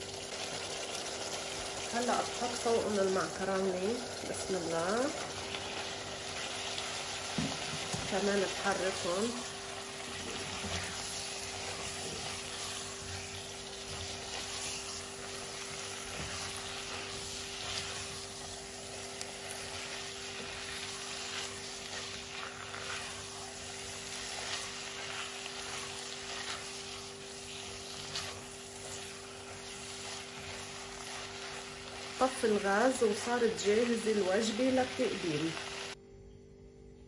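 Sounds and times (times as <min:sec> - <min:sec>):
sauce sizzling in pot: 0:00.0 - 0:36.0
spatula scraping and stirring: 0:00.3 - 0:35.0
steady low hum: 0:01.1 - 0:37.0.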